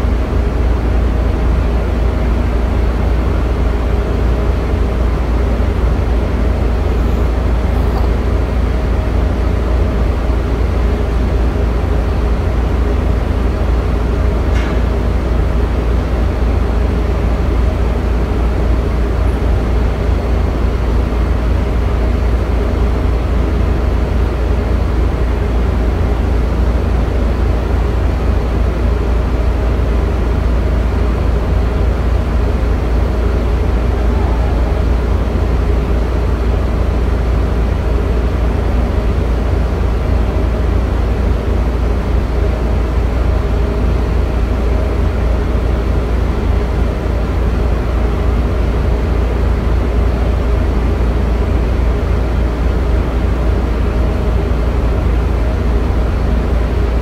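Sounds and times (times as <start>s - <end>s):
heavy machinery drone: 0.0s - 12.2s, 12.8s - 57.0s.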